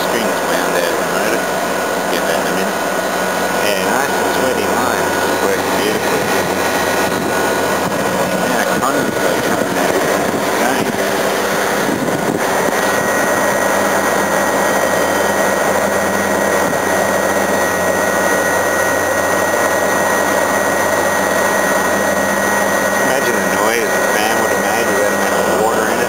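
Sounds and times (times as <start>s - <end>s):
air conditioner whirring: 0.0s - 26.0s.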